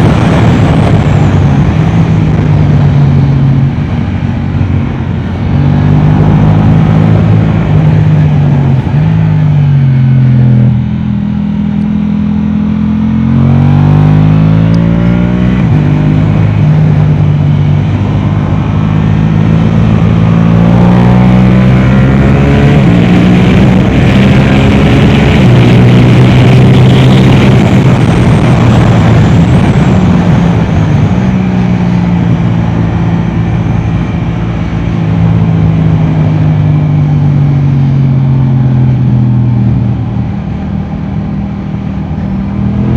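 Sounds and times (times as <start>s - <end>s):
motorcycle engine revving: 0.0s - 42.9s
steady rush of noise: 0.0s - 42.9s.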